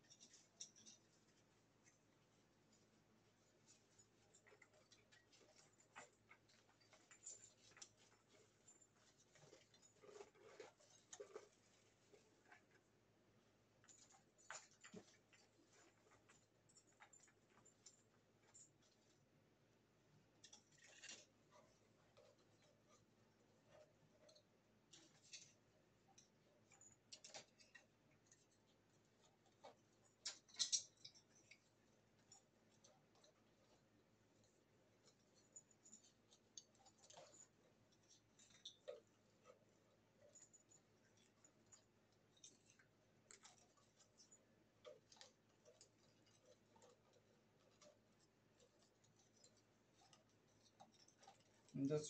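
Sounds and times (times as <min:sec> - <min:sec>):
decorations clicking and rustling: 0:00.0 - 0:52.0.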